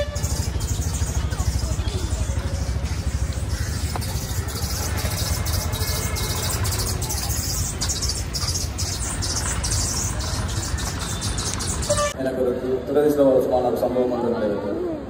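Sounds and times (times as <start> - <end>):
city road traffic engines: 0.0 - 15.0.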